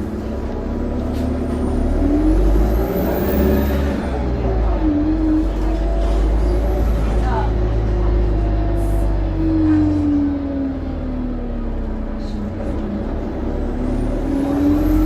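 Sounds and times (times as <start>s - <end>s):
bus diesel engine under load: 0.0s - 15.0s.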